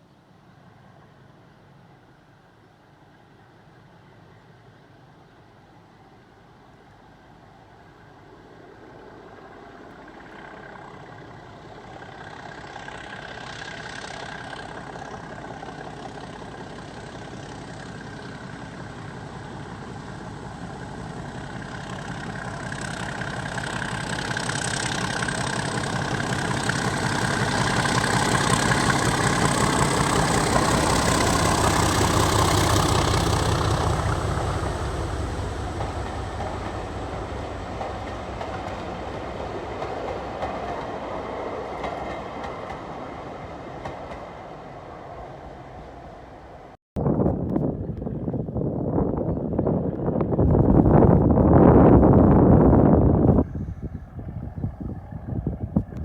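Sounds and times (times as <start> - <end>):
diesel locomotive engine passing: 0.4 - 46.8, 48.0 - 56.0.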